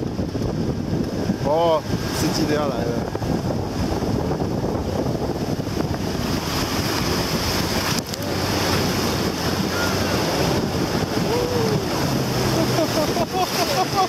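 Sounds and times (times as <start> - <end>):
whitewater rushing against raft: 0.0 - 14.0
wind noise on microphone: 0.0 - 14.0.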